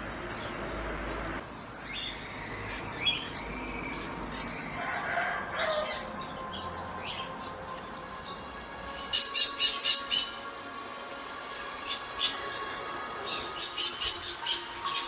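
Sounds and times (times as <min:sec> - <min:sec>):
birds chirping: 0:00.0 - 0:10.6, 0:11.8 - 0:15.0.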